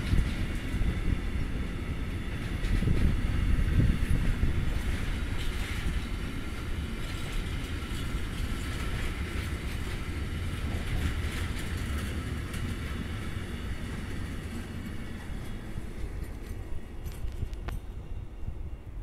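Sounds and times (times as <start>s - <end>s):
wheels rumbling on rails: 0.0s - 19.0s.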